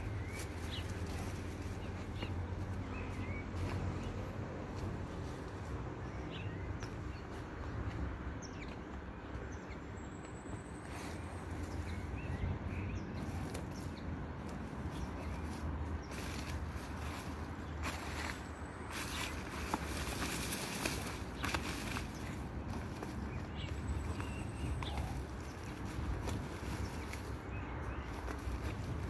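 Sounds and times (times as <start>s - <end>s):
weeds rustling and scraping: 0.0s - 6.3s, 10.8s - 12.2s, 13.1s - 29.0s.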